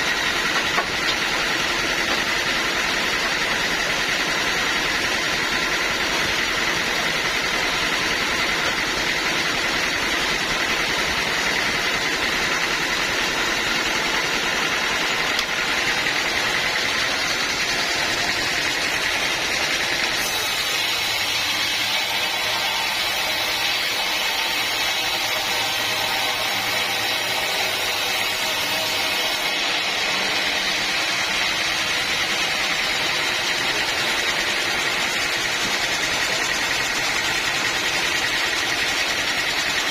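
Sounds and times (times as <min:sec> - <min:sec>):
bandsaw sawmill running: 0:00.0 - 0:39.9.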